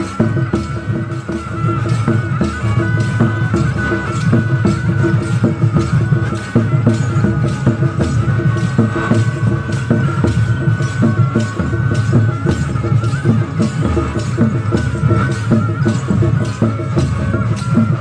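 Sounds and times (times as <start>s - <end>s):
heavy drumming: 0.0s - 18.0s
wind instrument high melody: 0.0s - 18.0s.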